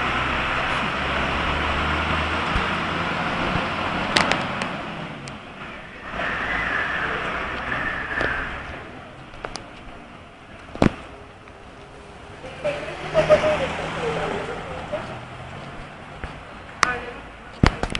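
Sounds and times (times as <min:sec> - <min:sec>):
fire truck engine running: 0:00.0 - 0:17.6.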